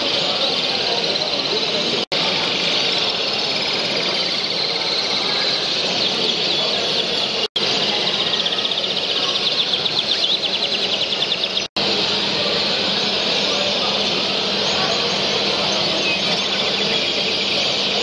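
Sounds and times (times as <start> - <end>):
canaries singing trills: 0.0 - 18.0.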